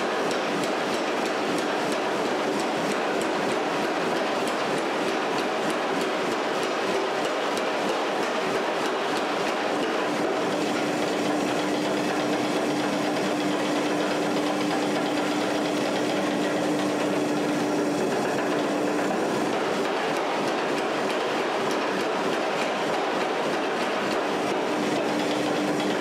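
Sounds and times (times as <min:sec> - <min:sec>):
power hammer striking hot steel: 0:00.0 - 0:26.0.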